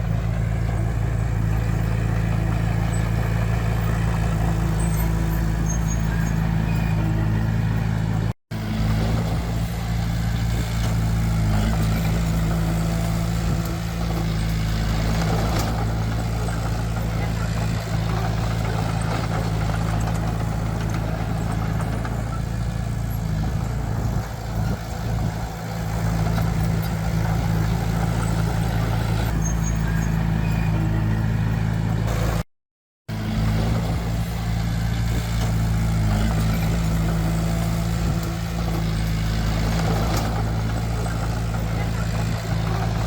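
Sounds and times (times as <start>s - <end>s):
heavy diesel engine droning: 0.0s - 32.4s, 33.1s - 43.0s.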